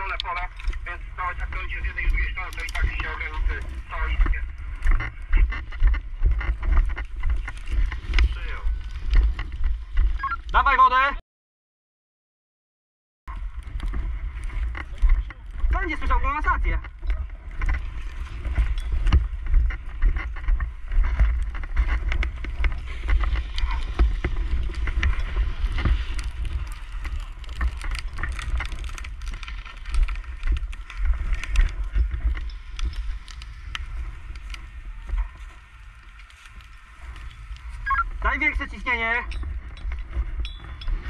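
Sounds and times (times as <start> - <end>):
crackles of burnt grass underfoot: 0.0 - 10.8, 13.3 - 41.0.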